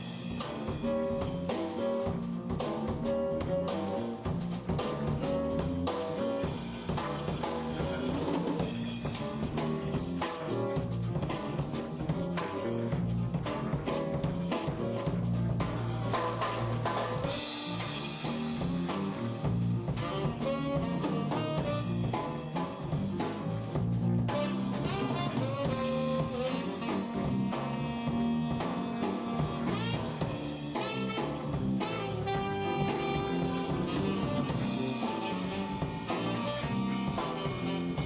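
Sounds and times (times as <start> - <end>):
bass line: 0.0 - 38.0
drum kit: 0.0 - 38.0
jazz band playing: 0.0 - 38.0.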